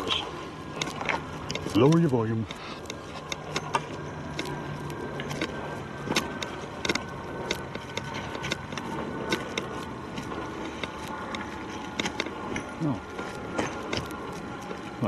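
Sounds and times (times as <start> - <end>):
footsteps on rocky trail: 0.0 - 15.0
propeller aircraft droning overhead: 0.0 - 15.0.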